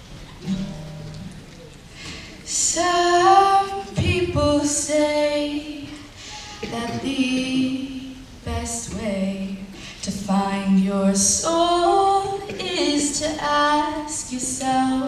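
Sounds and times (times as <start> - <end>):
acoustic guitar: 0.0 - 15.0
woman singing long held notes: 2.5 - 15.0.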